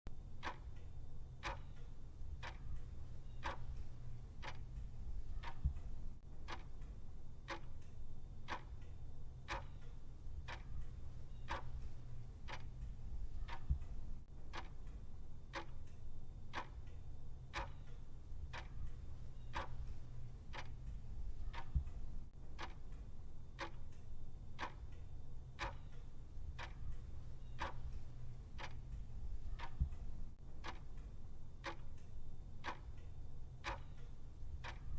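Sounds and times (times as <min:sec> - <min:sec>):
faint low hum: 0:00.1 - 0:34.9
clock ticking: 0:00.3 - 0:34.9.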